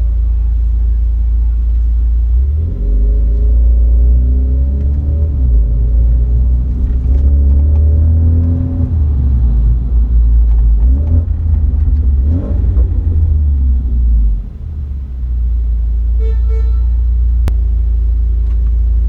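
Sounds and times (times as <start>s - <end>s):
car engine and exhaust rumble: 0.0s - 19.0s.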